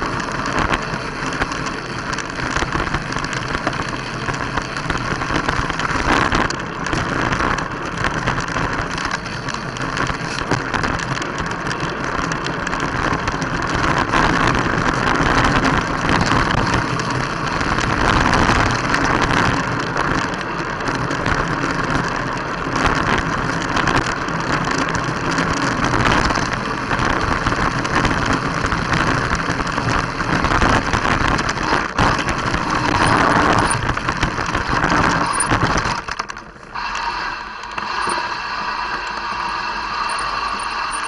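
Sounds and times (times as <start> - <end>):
bike rattling: 0.0 - 41.0
bike tyre rumbling on gravel: 0.0 - 41.0.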